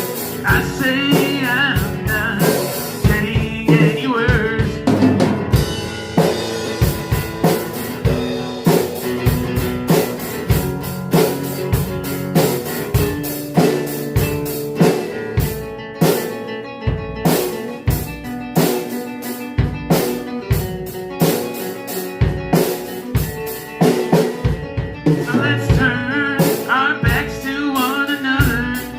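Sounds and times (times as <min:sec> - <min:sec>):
bass guitar: 0:00.0 - 0:28.9
drum kit beat: 0:00.0 - 0:28.9
electric guitar chords: 0:00.0 - 0:28.9.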